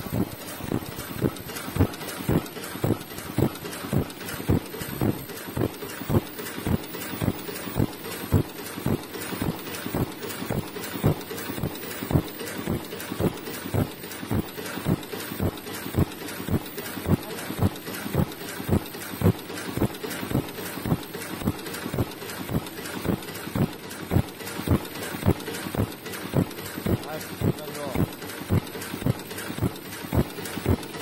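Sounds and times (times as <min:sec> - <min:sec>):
welding machine clacking: 0:00.0 - 0:31.0.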